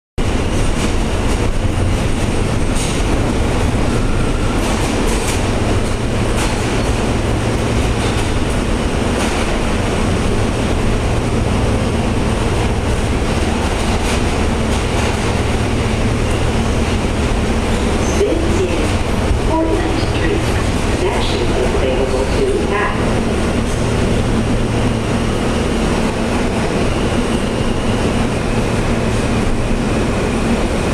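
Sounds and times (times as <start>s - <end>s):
subway train rumble: 0.2s - 30.9s.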